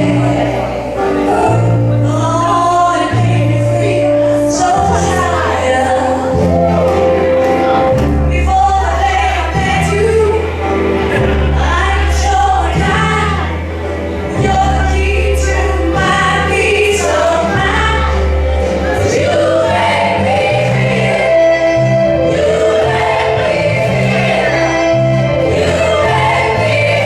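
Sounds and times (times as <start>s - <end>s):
deep bass line: 0.0s - 27.0s
group of voices singing: 0.0s - 27.0s.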